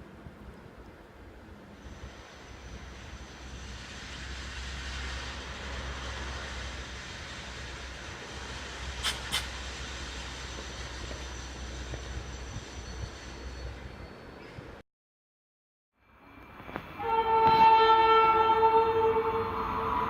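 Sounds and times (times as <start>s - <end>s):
train rumbling and rushing: 0.0s - 14.8s, 16.0s - 20.0s.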